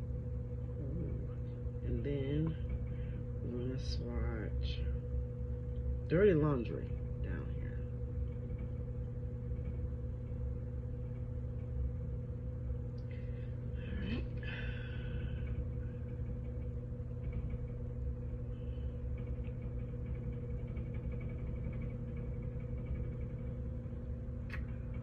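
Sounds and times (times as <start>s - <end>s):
constant tone: 0.0s - 25.0s
steady low hum: 0.0s - 25.0s.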